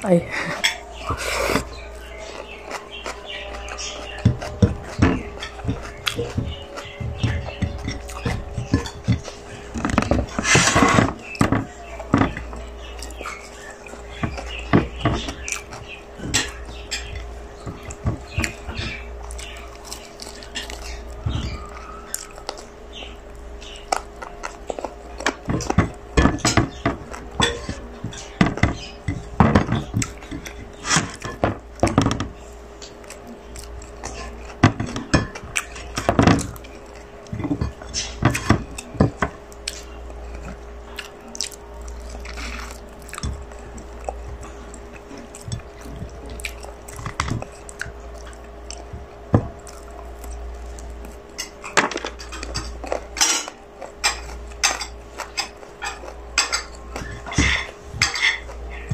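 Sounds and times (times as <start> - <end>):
chewing food: 0.1 - 58.9
fingers tapping a plate: 0.6 - 58.9.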